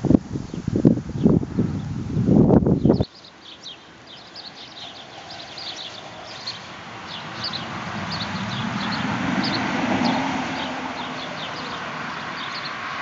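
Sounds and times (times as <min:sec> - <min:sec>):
small birds chirping: 0:00.4 - 0:02.0, 0:02.6 - 0:13.0.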